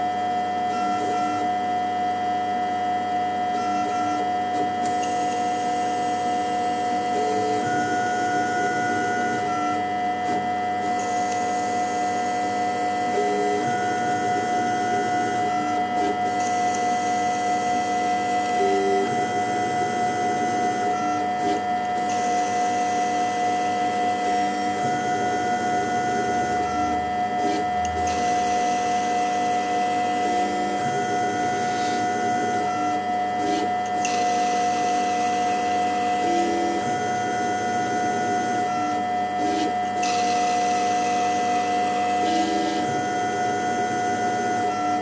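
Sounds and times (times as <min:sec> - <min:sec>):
stepper motors buzzing: 0:00.0 - 0:02.2, 0:02.9 - 0:45.0
lathe spindle hum and whine: 0:00.0 - 0:45.0.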